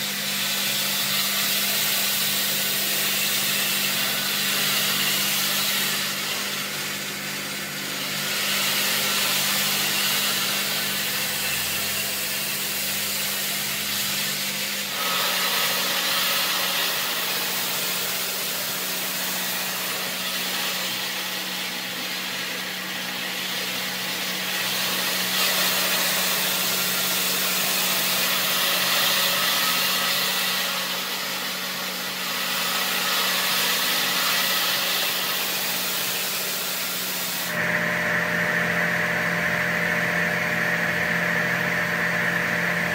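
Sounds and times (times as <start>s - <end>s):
saw grinding stone under water spray: 0.0s - 42.9s
saw motor hum: 0.0s - 42.9s.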